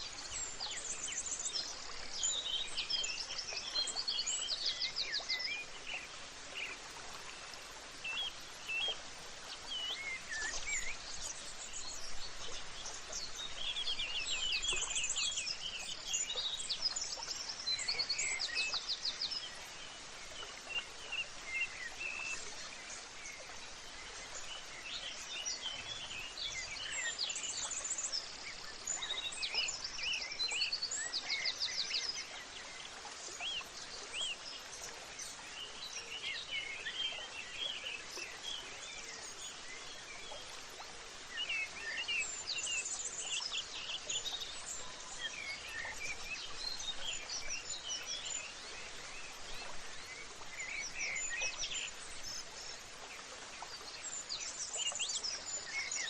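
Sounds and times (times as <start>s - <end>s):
outdoor ambient hiss: 0.0s - 55.8s.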